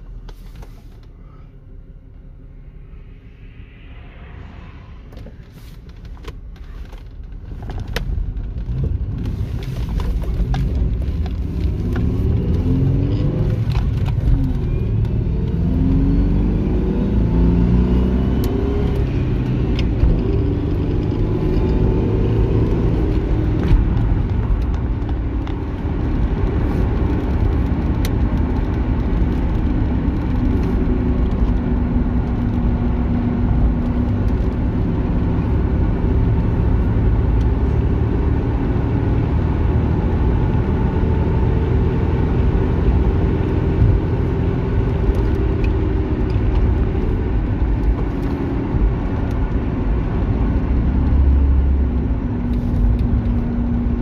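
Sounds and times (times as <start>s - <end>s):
road rumble: 0.0s - 54.0s
car engine accelerating: 7.9s - 54.0s.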